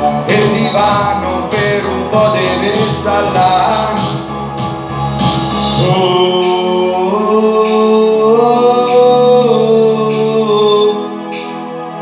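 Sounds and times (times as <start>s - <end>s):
karaoke backing track: 0.0s - 12.0s.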